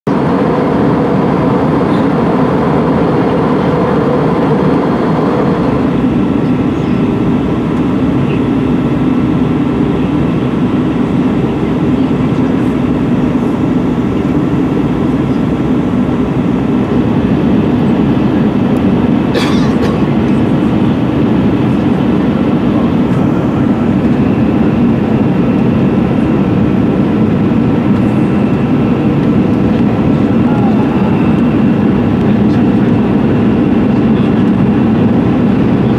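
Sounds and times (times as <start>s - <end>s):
jet cabin engine and airflow rush: 0.1s - 35.9s.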